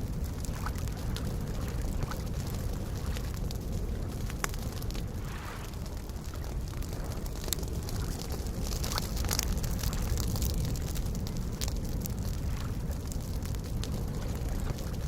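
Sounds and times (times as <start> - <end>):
campfire crackling: 0.0 - 15.0
sharp fire pops: 0.0 - 15.0
soft lake waves: 0.0 - 15.0.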